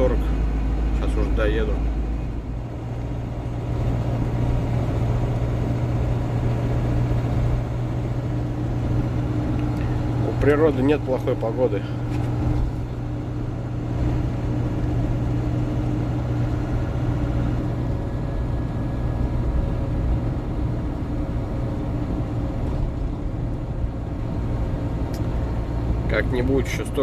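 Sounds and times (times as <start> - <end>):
road and wind noise: 0.0 - 27.0
truck engine hum: 0.0 - 27.0.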